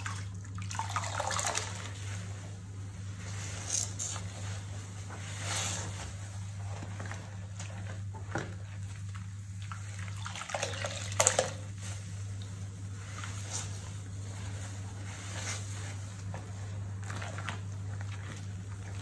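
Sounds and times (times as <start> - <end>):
sponges squelching in soapy water: 0.0 - 19.0.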